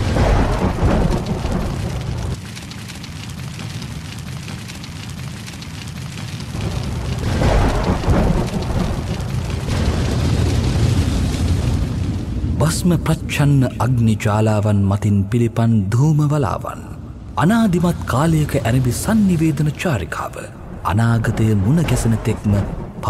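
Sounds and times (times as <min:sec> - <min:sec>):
rolling thunder: 0:00.0 - 0:02.4, 0:03.3 - 0:14.2, 0:17.0 - 0:23.0
steady rain: 0:00.0 - 0:23.0.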